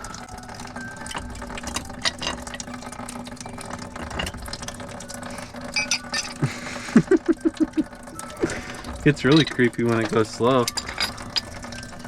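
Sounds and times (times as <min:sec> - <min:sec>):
music box high notes: 0:00.0 - 0:12.0
toy mechanism clicking and ratcheting: 0:00.0 - 0:12.0.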